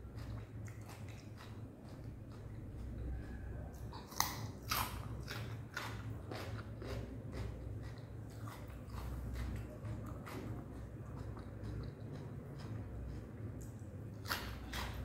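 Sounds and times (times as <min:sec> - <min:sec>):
chewing with soft crunches: 0:00.0 - 0:15.0
biting into cucumber: 0:00.2 - 0:15.0.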